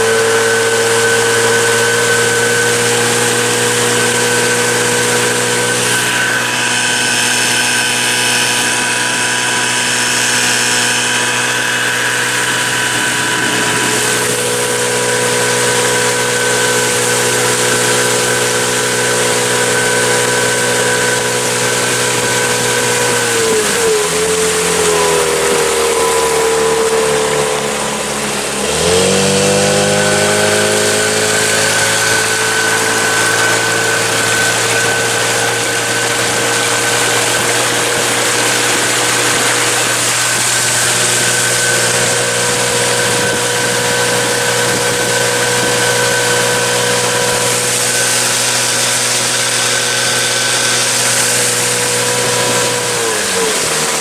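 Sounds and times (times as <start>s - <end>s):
boat outboard motor running: 0.0s - 54.0s.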